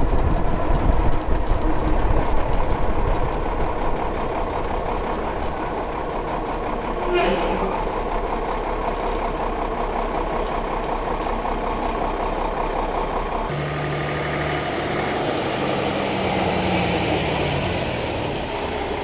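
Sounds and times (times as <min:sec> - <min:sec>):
heavy truck engine rumble: 0:00.0 - 0:19.0.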